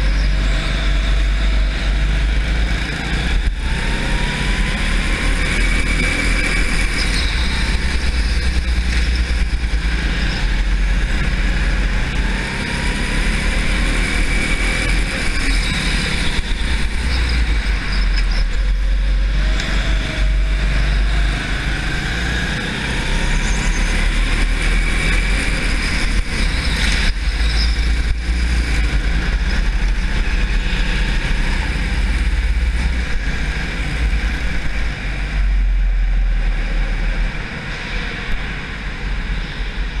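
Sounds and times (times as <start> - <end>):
go-kart engine racing: 0.0 - 40.0
low rumble: 0.0 - 40.0.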